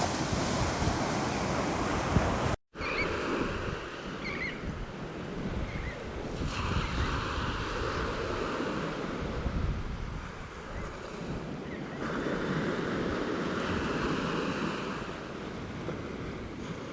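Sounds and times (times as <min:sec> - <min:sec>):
wind on microphone: 0:00.0 - 0:14.4
waves breaking on a beach: 0:00.0 - 0:16.9.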